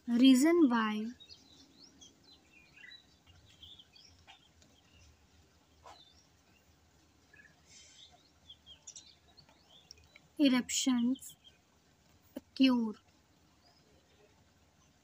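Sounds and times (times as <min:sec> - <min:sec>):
faint bird chirps: 0:00.1 - 0:15.0.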